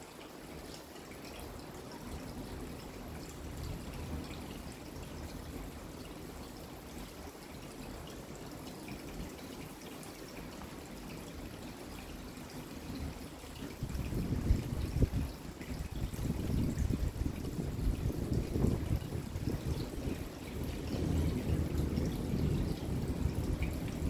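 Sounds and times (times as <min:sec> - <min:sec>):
steady rain: 0:00.0 - 0:24.0
water dripping and trickling: 0:00.0 - 0:24.0.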